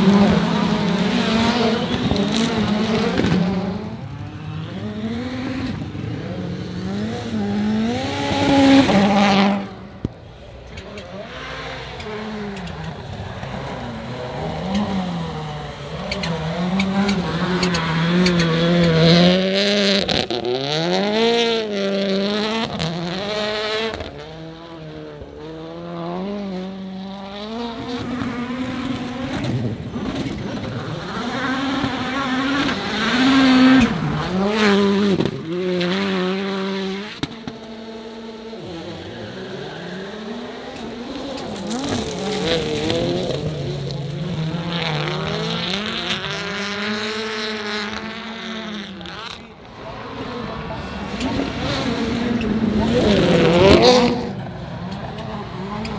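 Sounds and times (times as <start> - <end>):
race car engines revving: 0.0 - 55.9.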